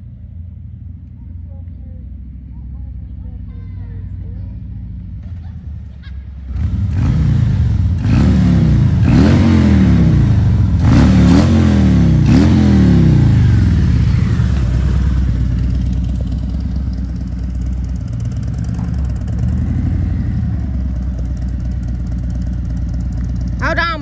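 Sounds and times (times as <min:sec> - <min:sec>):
motorcycle engine revving: 0:04.1 - 0:24.0.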